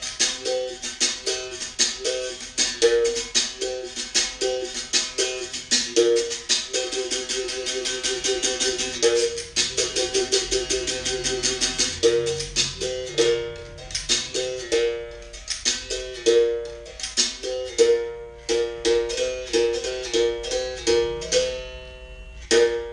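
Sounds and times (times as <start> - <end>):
berimbau rhythm: 0.0 - 22.9.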